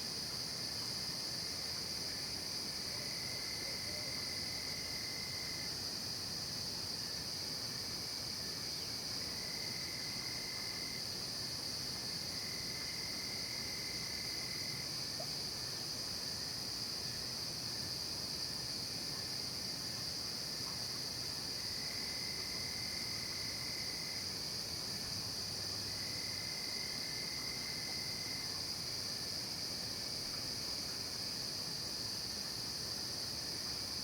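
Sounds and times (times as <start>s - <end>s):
lower cricket trill: 0.7s - 6.2s, 6.8s - 34.0s.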